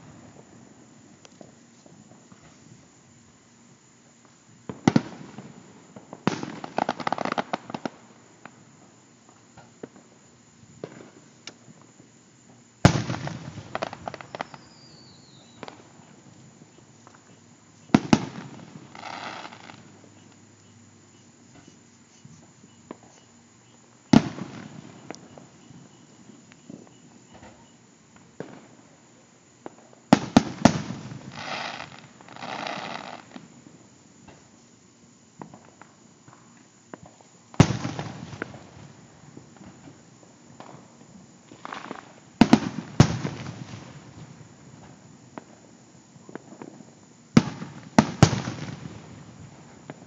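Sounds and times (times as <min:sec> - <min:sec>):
firework crackling: 0:00.0 - 0:50.0.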